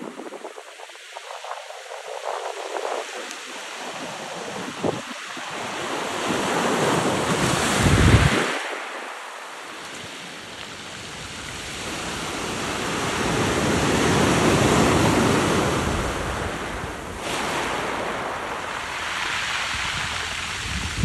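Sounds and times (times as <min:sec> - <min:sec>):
wind buffeting microphone: 0:00.0 - 0:08.9, 0:09.9 - 0:21.0
sea surf washing: 0:00.0 - 0:21.0.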